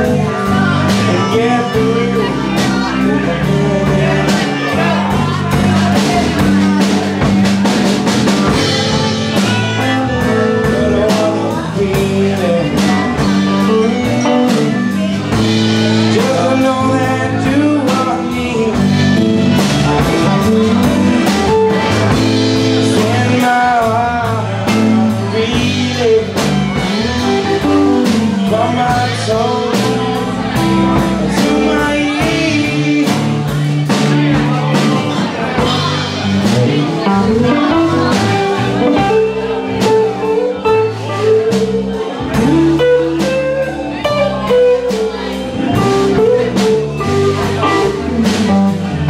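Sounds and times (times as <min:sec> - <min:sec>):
drums: 0:00.0 - 0:49.0
electric bass: 0:00.0 - 0:49.0.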